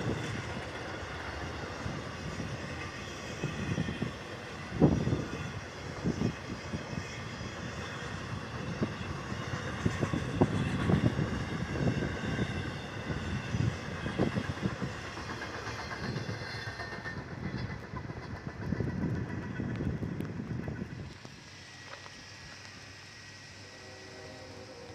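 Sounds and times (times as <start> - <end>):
train cars rumbling past: 0.0 - 24.9.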